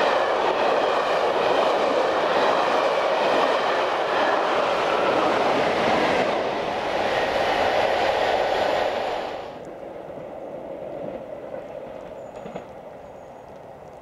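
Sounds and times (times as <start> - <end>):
train rushing past: 0.0 - 12.8
distant train rumble: 0.0 - 14.0.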